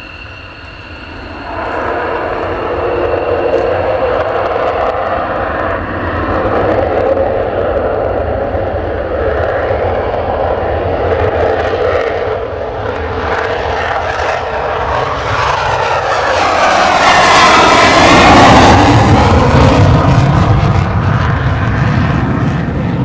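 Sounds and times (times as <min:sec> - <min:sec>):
fighter jet engine roar: 0:00.0 - 0:23.0.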